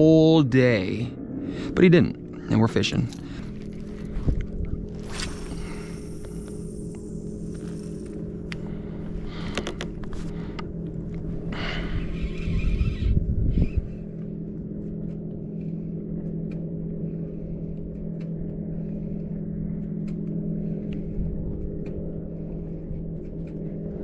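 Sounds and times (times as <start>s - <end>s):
low rumble: 0.0s - 24.0s
electric motor hum: 1.2s - 24.0s.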